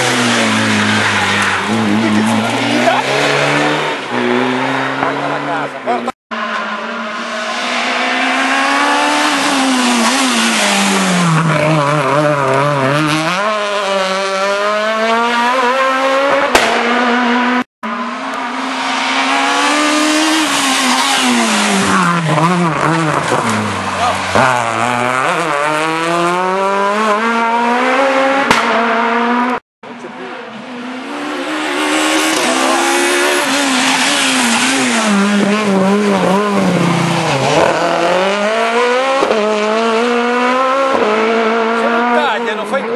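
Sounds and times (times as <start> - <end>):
rally cars passing at full speed: 0.0 - 42.9.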